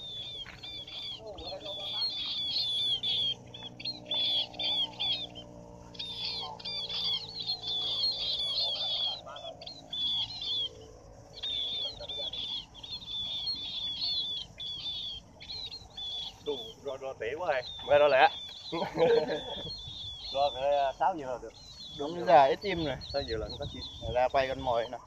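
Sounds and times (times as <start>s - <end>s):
birds chirping and twittering: 0.0s - 25.0s.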